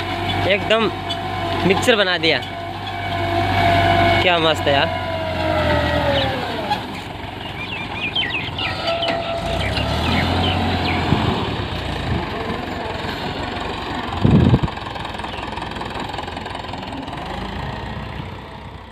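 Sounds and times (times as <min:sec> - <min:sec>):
discs churning through soil: 0:00.0 - 0:16.4
tractor diesel engine under load: 0:00.0 - 0:18.9.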